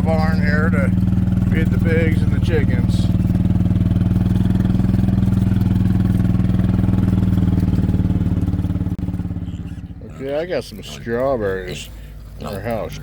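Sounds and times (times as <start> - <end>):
small vehicle engine running: 0.0 - 13.0.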